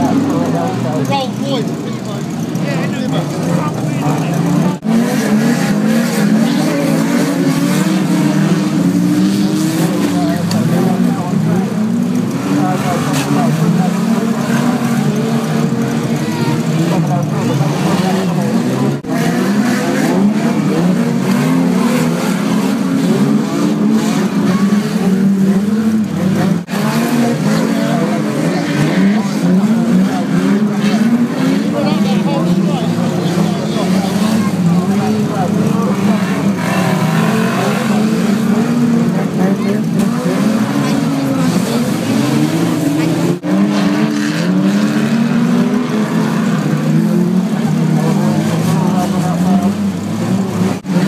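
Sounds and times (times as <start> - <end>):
racing car engines revving: 0.0 - 51.0.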